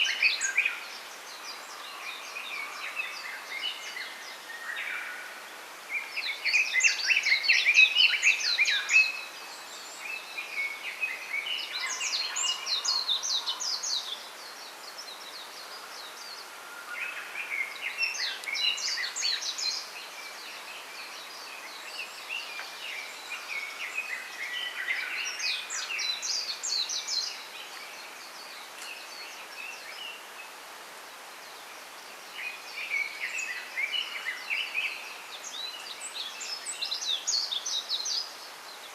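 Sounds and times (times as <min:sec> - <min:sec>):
bamboo rustling hiss: 0:00.0 - 0:38.9.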